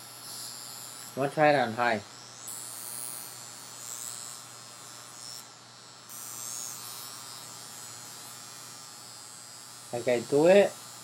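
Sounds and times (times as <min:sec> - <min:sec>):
high buzzing hiss: 0:00.0 - 0:11.0.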